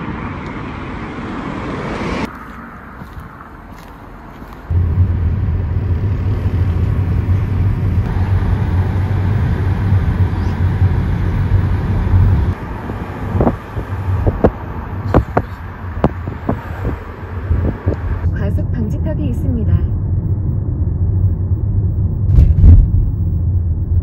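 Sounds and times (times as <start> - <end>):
car cabin rumble: 3.8 - 24.0.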